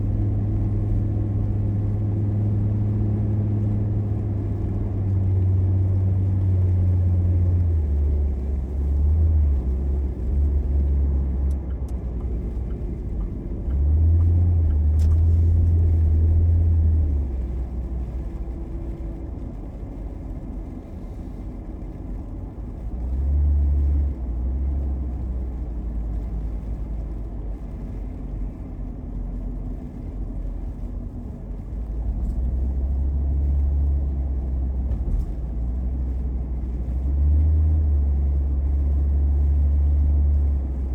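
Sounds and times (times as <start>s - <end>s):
car road rumble inside cabin: 0.0s - 40.9s.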